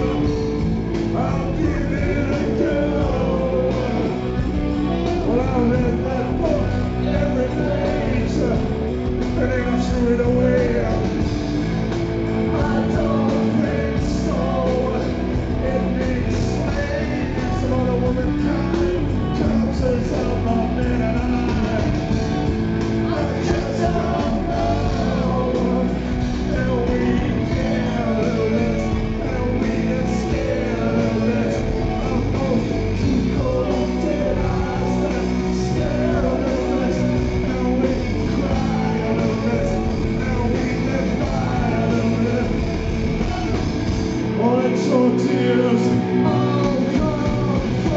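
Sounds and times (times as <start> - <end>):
man singing into a microphone: 0.0 - 11.3, 12.4 - 22.3, 23.0 - 47.9
rock band playing live: 0.0 - 47.9.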